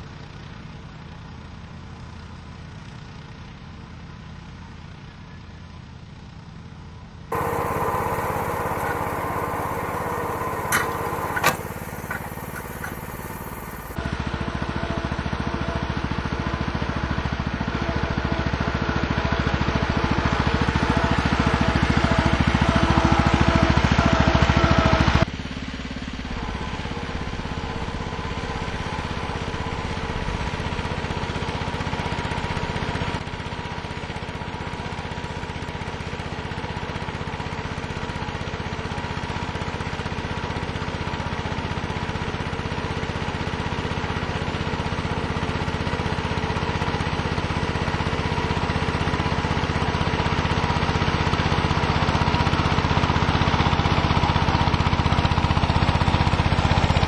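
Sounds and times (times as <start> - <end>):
garden tractor engine under load: 7.3 - 57.0.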